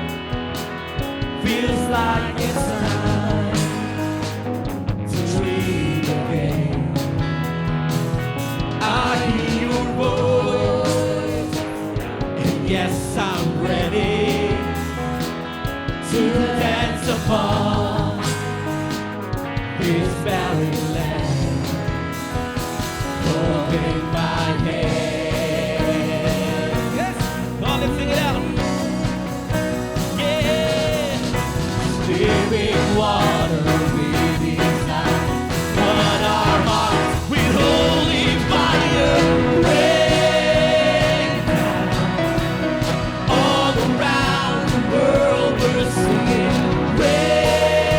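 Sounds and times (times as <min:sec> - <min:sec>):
drums: 0:00.0 - 0:47.9
guitars: 0:00.0 - 0:47.9
voices singing: 0:01.2 - 0:04.5, 0:05.1 - 0:07.5, 0:08.4 - 0:47.9.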